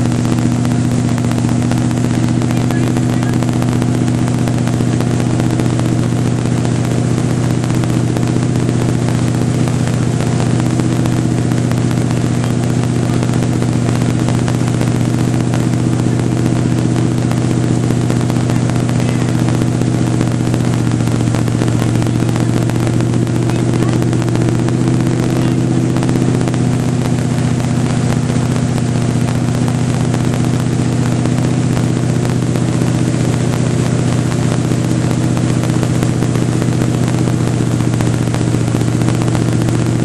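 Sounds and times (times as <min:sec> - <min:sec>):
motorboat engine drone: 0:00.0 - 0:40.0.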